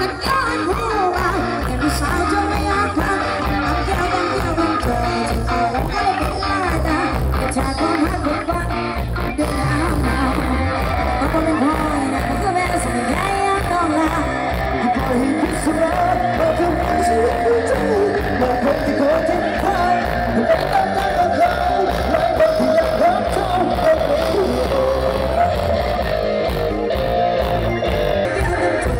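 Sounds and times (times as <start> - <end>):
loud parade music with singing: 0.0 - 28.9.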